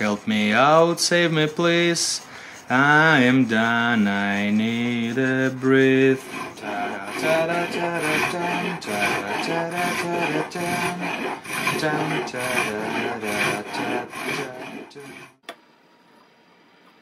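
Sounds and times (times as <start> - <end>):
file rasping on antler: 0.0 - 15.4.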